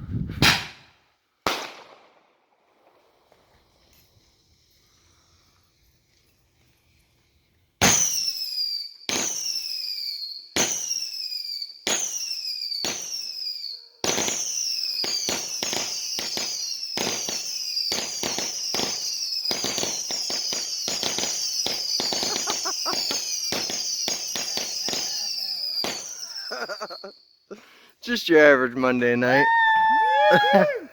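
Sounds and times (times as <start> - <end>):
fireworks cracking and whistling: 0.1 - 30.9.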